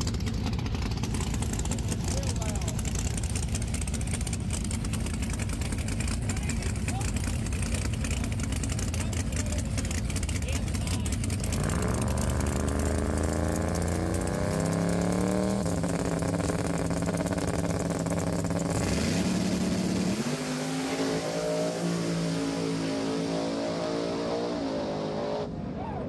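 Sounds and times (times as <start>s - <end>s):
race truck engines revving: 0.0s - 26.0s.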